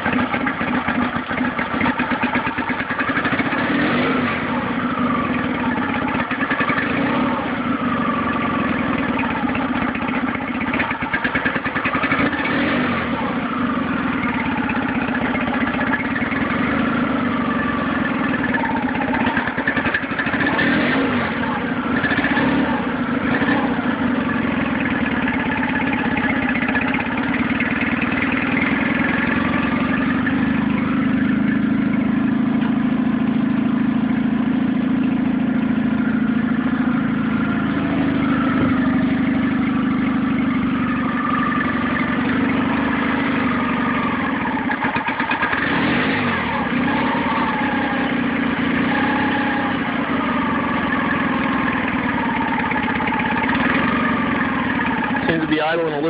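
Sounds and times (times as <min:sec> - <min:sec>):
outboard motor idling: 0:00.0 - 0:56.0.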